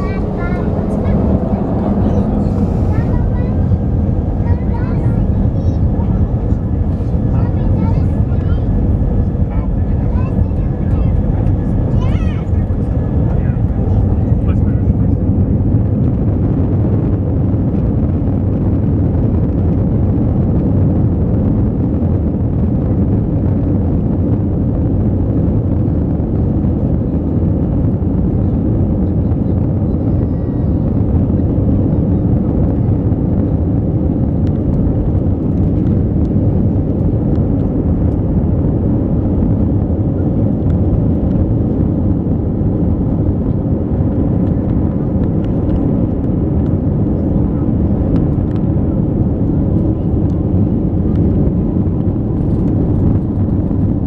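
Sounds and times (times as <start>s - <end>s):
jet engine rumble inside cabin: 0.0s - 54.0s.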